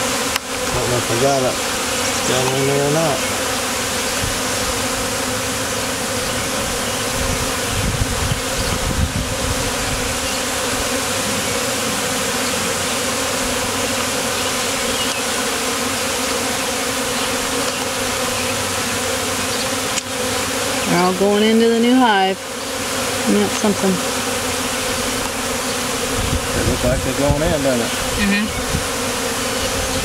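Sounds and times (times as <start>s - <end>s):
bees buzzing: 0.0s - 30.0s.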